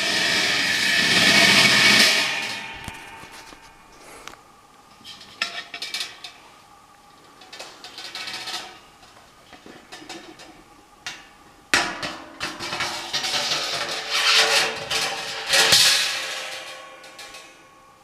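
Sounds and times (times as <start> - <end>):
metal knocking and scraping: 0.0 - 4.4, 5.0 - 6.4, 7.2 - 10.6, 11.7 - 17.6.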